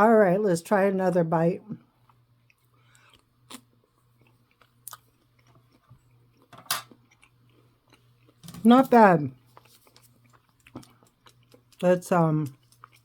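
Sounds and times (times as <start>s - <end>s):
person chewing: 2.0s - 8.8s, 9.4s - 13.0s.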